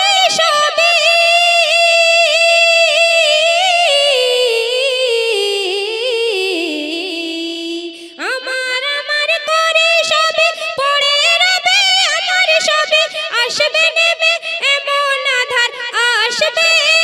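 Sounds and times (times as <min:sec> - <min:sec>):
girl singing into microphone: 0:00.0 - 0:17.0.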